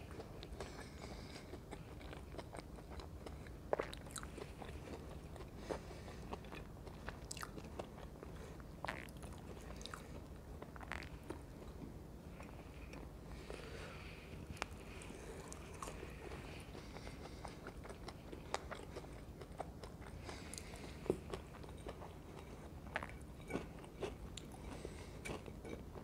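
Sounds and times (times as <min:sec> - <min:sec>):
chewing fries: 0:00.0 - 0:26.0.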